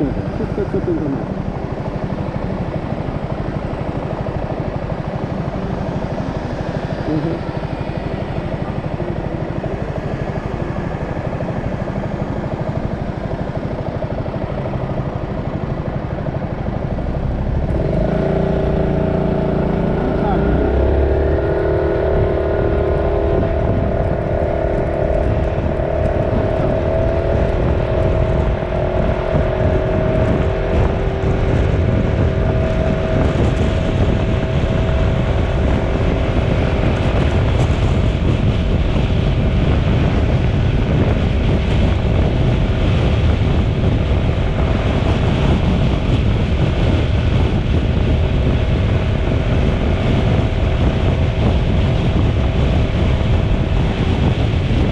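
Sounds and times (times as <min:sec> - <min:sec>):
road rumble: 0:00.0 - 0:54.9
wind noise on microphone: 0:00.0 - 0:54.9.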